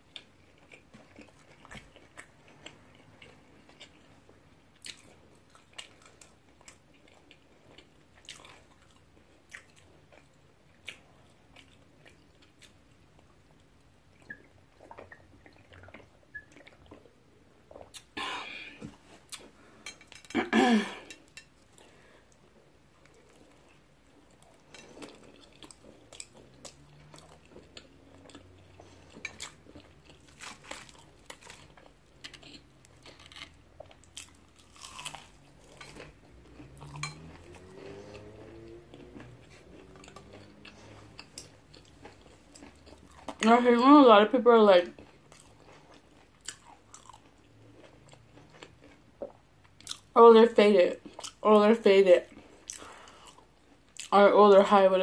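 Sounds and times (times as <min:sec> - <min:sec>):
person chewing and crunching food: 0:00.0 - 0:50.2, 0:51.0 - 0:54.2.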